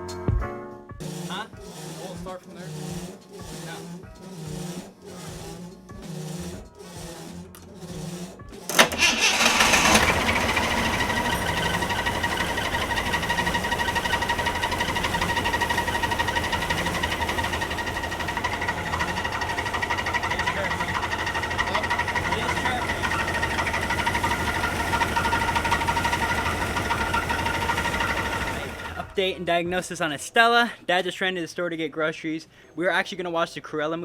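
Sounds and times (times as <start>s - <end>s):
high-pitched belt squeal: 1.0s - 29.1s
car engine running: 1.0s - 29.3s.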